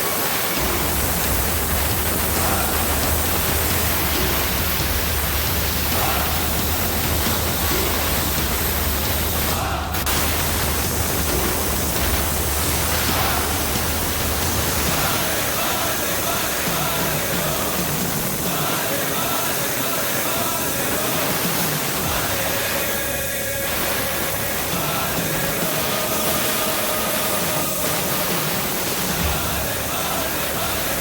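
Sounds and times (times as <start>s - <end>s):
steam jet hissing: 0.0s - 31.0s
low machine hum: 0.1s - 31.0s.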